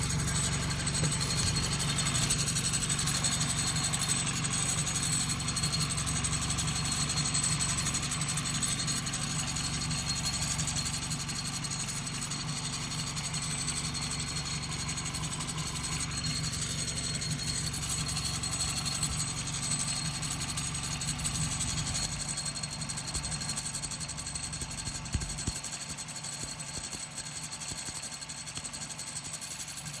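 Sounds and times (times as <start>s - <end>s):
vehicle engine idling: 0.0s - 25.4s.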